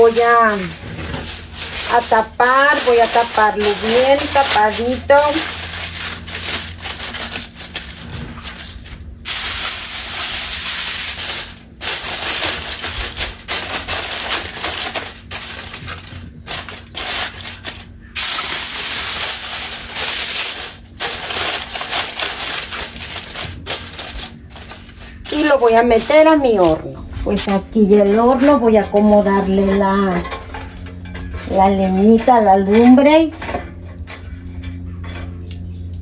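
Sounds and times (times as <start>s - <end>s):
aluminium foil crinkling: 0.0s - 36.0s.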